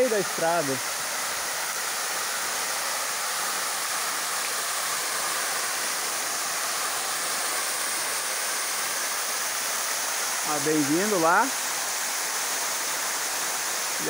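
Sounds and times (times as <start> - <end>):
waterfall rushing and splashing: 0.0 - 14.0.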